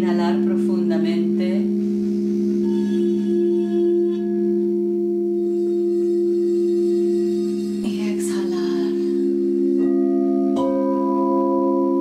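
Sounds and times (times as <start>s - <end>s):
crystal singing bowls ringing: 0.0s - 12.0s.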